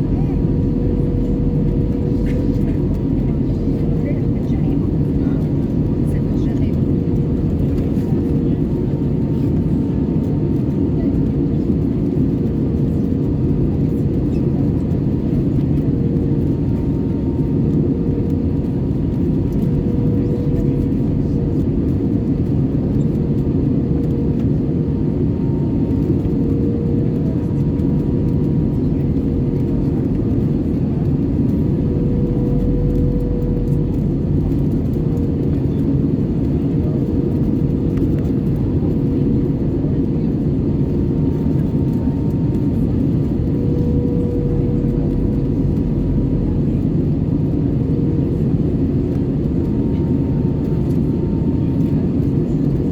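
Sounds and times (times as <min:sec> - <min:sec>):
aircraft cabin noise: 0:00.0 - 0:52.9.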